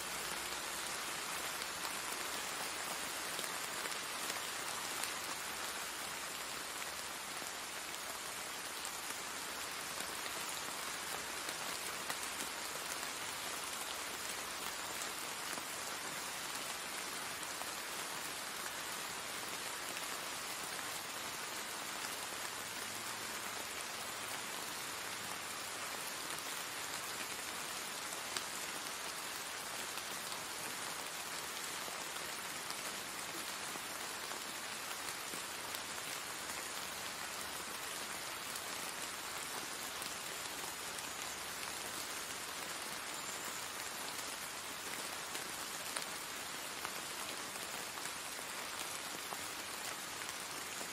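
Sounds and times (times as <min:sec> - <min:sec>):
steady rain on paving stones: 0:00.0 - 0:50.9.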